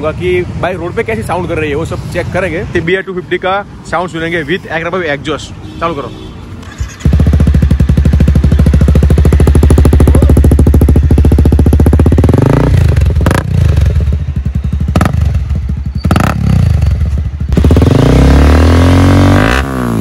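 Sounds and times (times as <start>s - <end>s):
motorcycle engine idling and revving: 0.0s - 5.1s, 6.6s - 20.0s.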